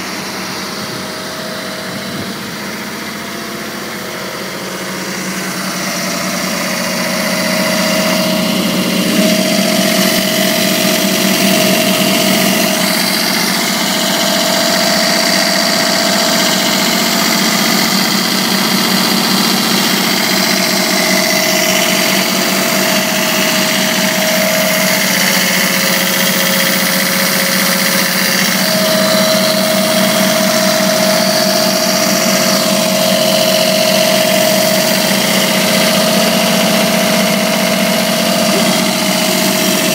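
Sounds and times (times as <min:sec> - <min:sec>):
air compressor diesel engine running: 0:00.0 - 0:39.9
high steady whine: 0:00.0 - 0:39.9.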